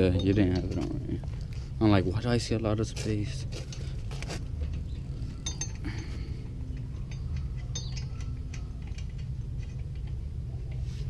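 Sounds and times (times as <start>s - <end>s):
light metal clinks: 0.0s - 1.6s, 3.2s - 10.9s
steady low rumble: 0.0s - 11.0s.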